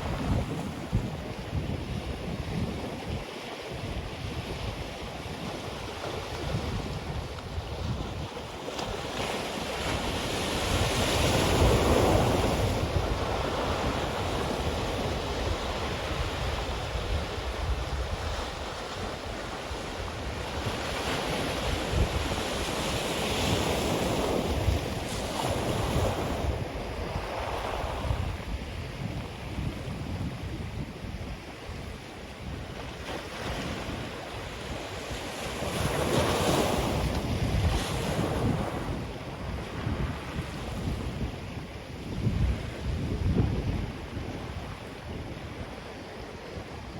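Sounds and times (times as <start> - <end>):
surf washing onto beach: 0.0 - 46.9
wind buffeting microphone: 0.0 - 46.9.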